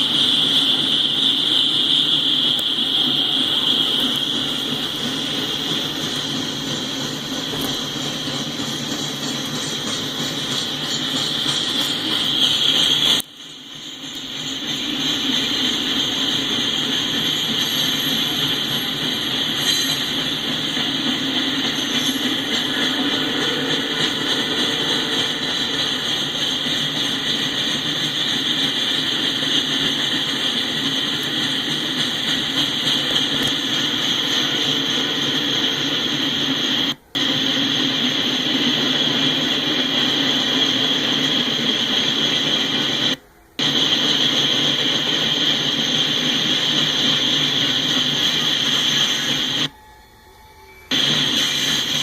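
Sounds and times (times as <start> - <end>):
high-pitched hiss: 0.0 - 52.0
train rumbling on rails: 0.0 - 52.0.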